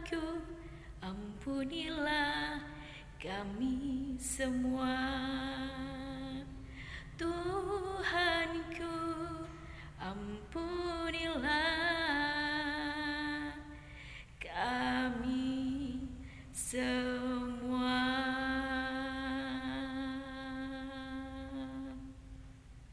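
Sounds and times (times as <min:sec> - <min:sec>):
woman singing unaccompanied: 0:00.0 - 0:22.4.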